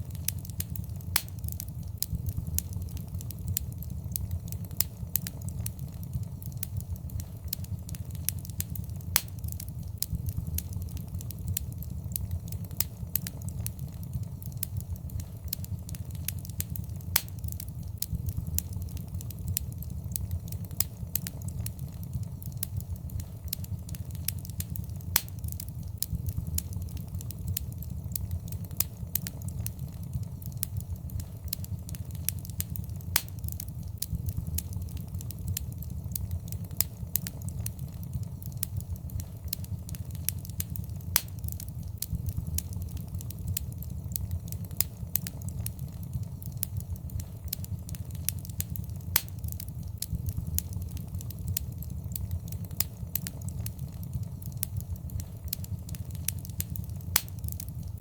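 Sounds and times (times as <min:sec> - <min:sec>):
burning wood crackling and popping: 0:00.0 - 0:58.0
low rumble of fire: 0:00.0 - 0:58.0.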